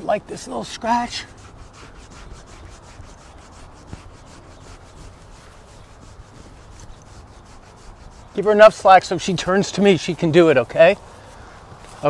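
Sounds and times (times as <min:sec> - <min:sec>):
fingers scratching horse coat: 0:00.0 - 0:12.0.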